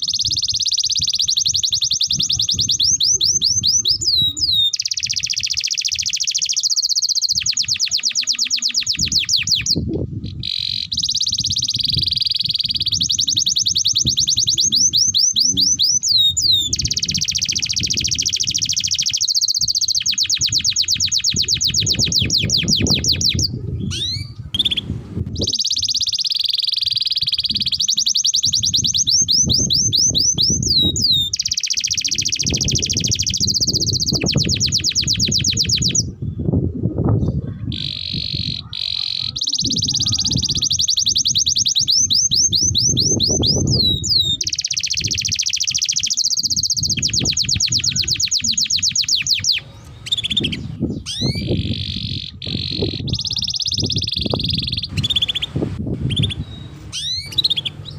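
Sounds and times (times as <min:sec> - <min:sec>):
canary singing trills: 0:00.0 - 0:36.6, 0:37.2 - 0:57.9.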